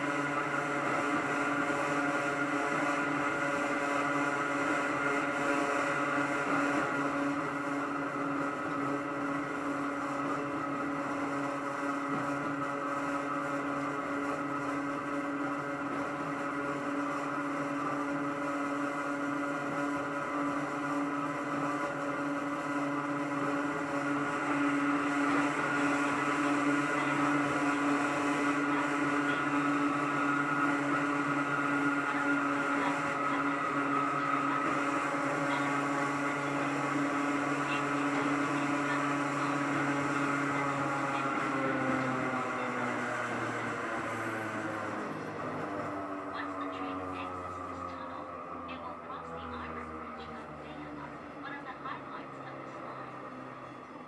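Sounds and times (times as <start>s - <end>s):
traction motor whine: 0.0s - 54.0s
wheels rumbling on track: 0.0s - 54.0s.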